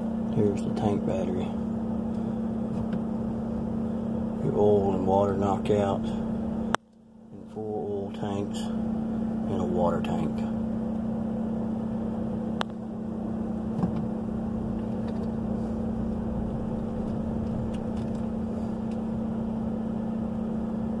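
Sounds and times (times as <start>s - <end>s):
truck engine running: 0.0s - 6.8s, 8.1s - 21.0s.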